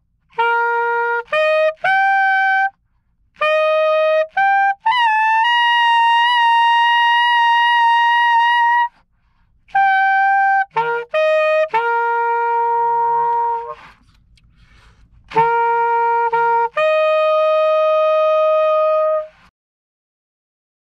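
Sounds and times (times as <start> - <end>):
alto saxophone playing: 0.3 - 19.5.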